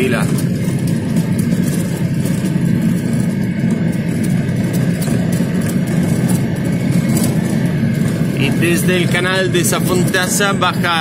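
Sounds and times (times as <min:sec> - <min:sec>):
car engine running: 0:00.0 - 0:11.0
tyre and road noise: 0:00.0 - 0:11.0.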